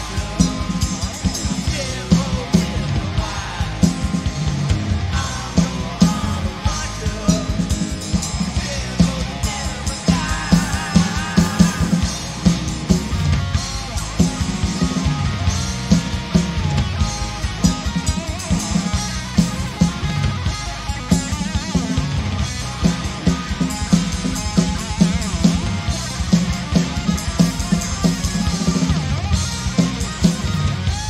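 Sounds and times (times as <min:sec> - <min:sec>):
rock band playing: 0:00.0 - 0:31.0.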